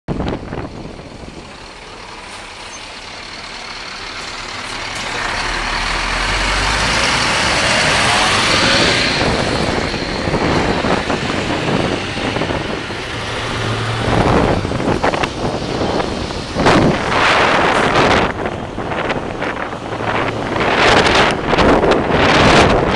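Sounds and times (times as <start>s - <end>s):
truck engine running: 0.1s - 22.9s.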